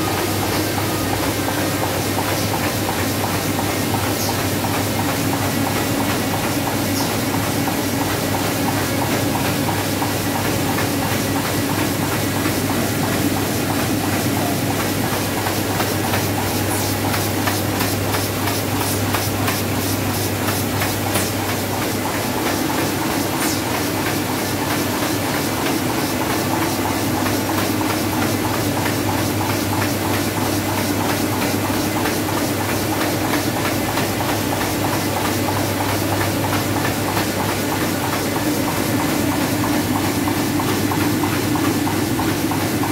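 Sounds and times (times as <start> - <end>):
printing press running: 0.0 - 42.9.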